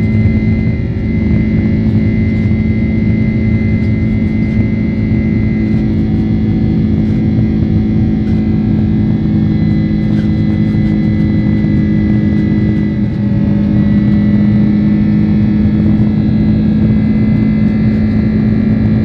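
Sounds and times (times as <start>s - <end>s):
jet engines droning in cabin: 0.0s - 19.0s.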